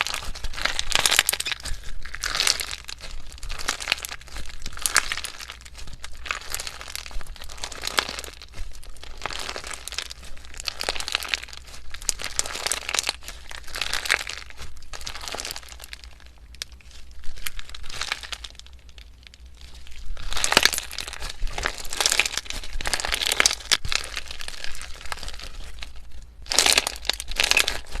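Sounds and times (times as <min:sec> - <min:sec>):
slime squeezed by hand crackling: 0:00.0 - 0:28.0.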